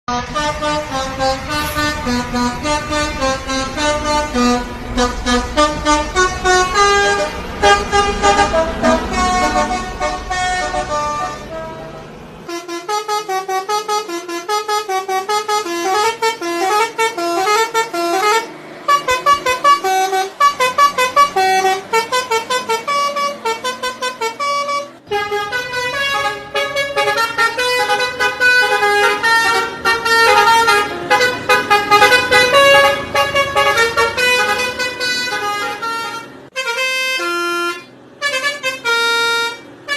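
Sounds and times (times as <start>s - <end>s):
low engine rumble: 0.1s - 39.9s
multi-tone bus horn tunes: 0.1s - 39.9s.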